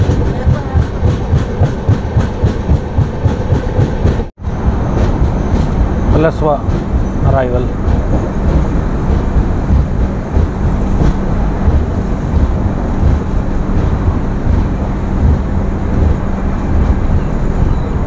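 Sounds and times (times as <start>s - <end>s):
train wheels rumbling on rails: 0.0s - 18.0s
wind buffeting microphone: 0.0s - 18.0s.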